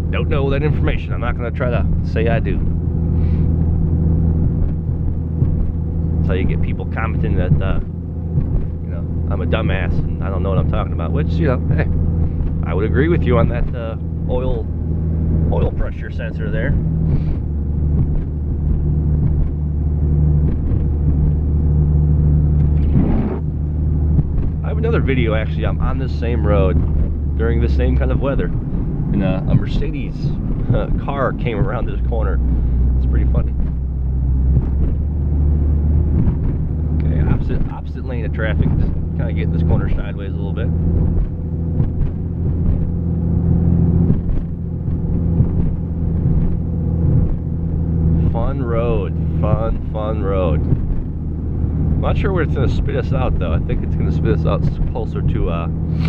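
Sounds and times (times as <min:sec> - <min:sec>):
engine and drivetrain droning: 0:00.0 - 0:56.0.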